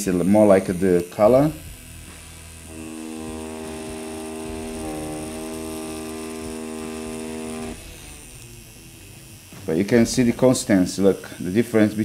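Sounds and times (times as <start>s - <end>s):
tattoo machine humming: 0.0s - 12.0s.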